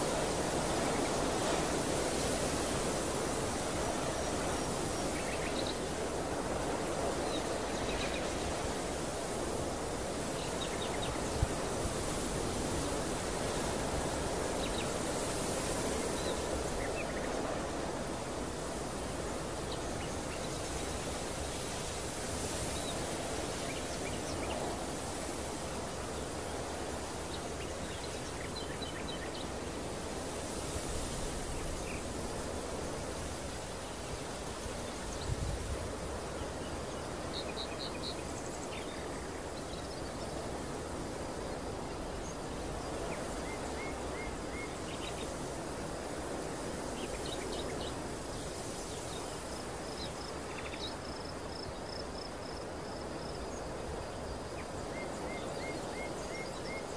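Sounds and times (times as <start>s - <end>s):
steady wind over a field: 0.0s - 56.9s.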